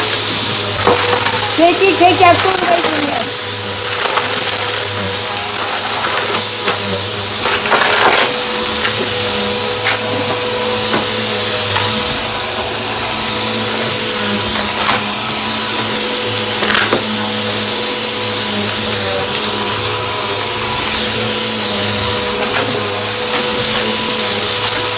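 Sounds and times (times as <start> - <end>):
debris crackling in vacuum: 0.0 - 24.9
vacuum cleaner running: 0.0 - 24.9.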